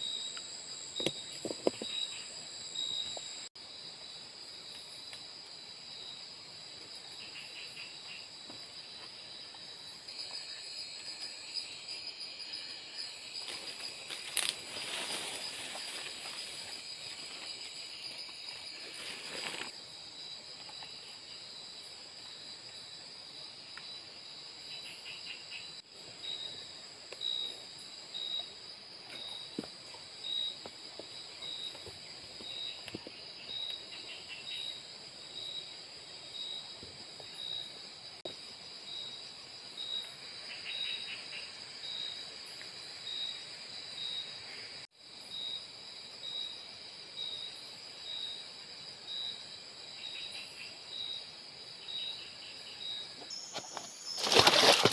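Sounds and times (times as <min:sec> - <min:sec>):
insect chirping: 0:00.0 - 0:54.9
insect trills: 0:00.0 - 0:54.9
insects buzzing: 0:00.0 - 0:54.9.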